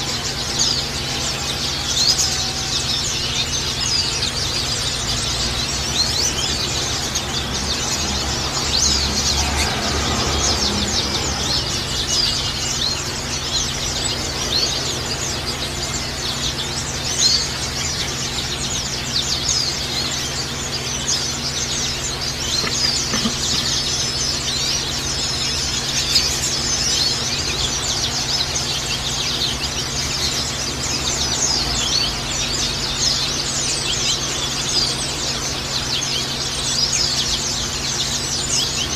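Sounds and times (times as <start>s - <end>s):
birds chirping together: 0.0s - 38.9s.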